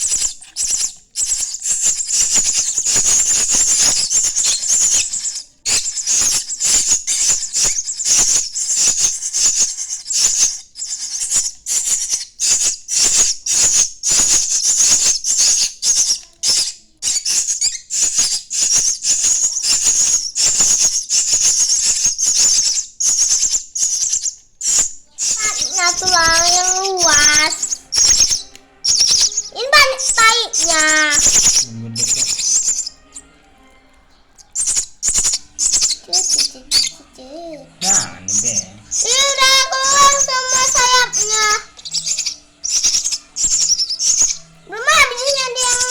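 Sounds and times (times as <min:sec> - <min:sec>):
nestlings raspy begging calls: 0:00.0 - 0:45.9.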